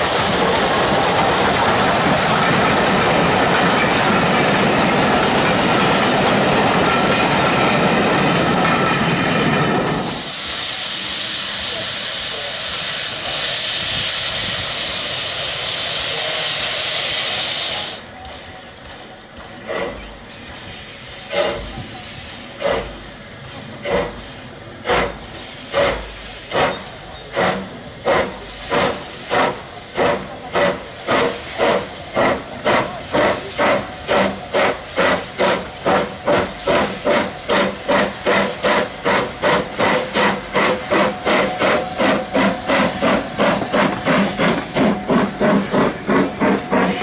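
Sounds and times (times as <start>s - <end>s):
steam locomotive chuffing: 0.0s - 47.0s.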